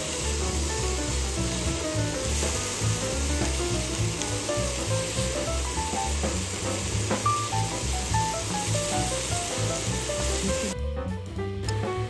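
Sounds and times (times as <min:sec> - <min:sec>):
beef sizzling in a pan: 0:00.0 - 0:10.8
background music with bass: 0:00.0 - 0:12.0.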